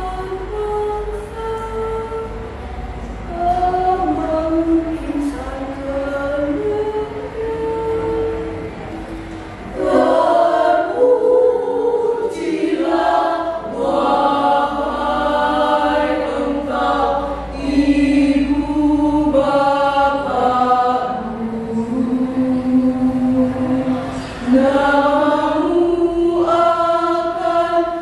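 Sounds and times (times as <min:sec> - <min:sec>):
women's choir singing in harmony: 0:00.0 - 0:28.0.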